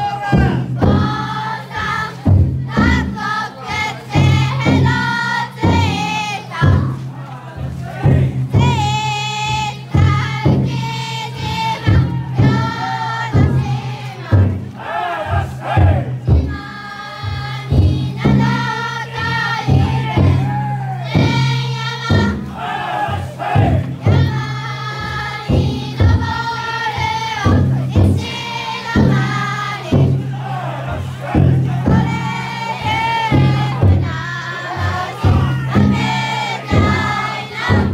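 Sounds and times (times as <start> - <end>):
group chanting: 0.0 - 37.9
taiko drum heavy strokes: 0.0 - 37.9.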